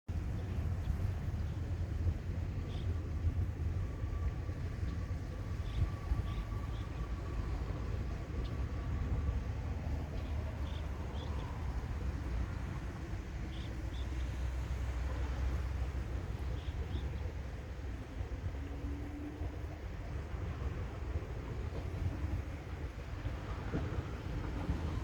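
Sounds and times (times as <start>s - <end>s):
steady low rumble: 0.1s - 25.0s.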